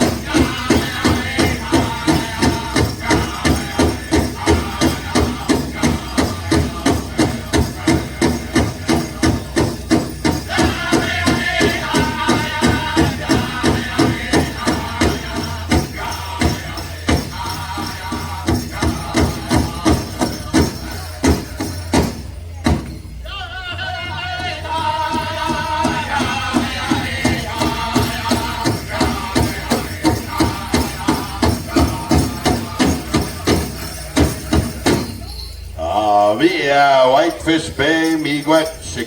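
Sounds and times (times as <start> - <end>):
high-pitched group singing: 0.0 - 22.2, 23.2 - 39.0
big drum steady beat: 0.0 - 23.3, 24.0 - 39.0.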